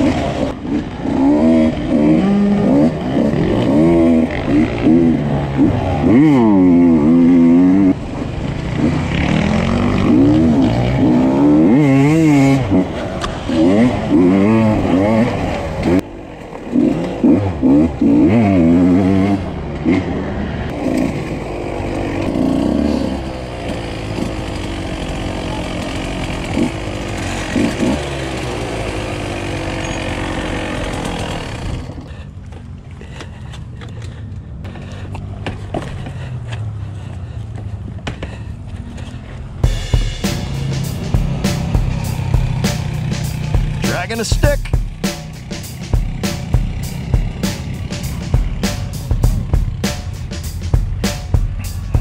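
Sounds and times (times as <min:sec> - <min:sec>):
two-stroke engine revving and idling: 0:00.0 - 0:32.4, 0:38.7 - 0:52.0.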